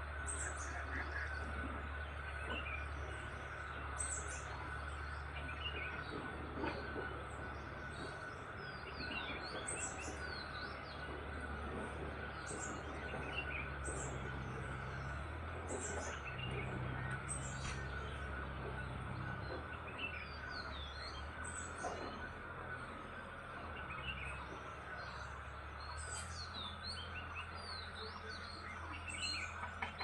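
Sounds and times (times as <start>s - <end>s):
birds chirping: 0.0s - 30.0s
low hum: 0.0s - 30.0s.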